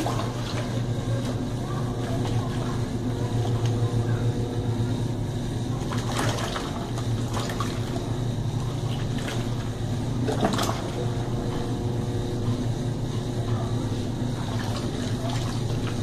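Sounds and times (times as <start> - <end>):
washing machine churning water: 0.0 - 16.0
washing machine hum: 0.0 - 16.0.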